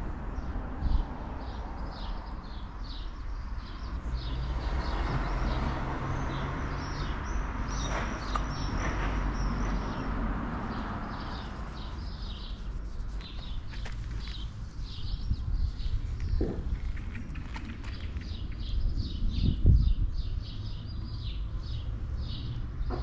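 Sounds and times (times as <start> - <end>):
small birds chirping: 1.4 - 23.0.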